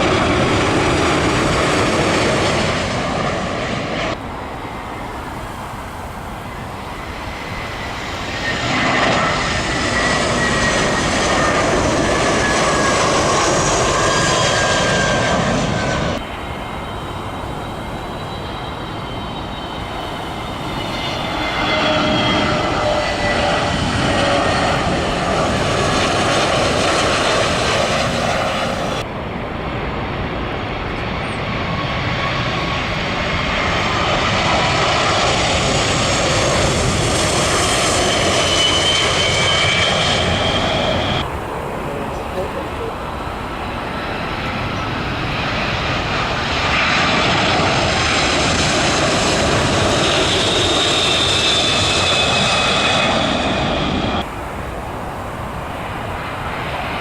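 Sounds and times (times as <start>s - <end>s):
jet airliners passing overhead: 0.0s - 57.0s.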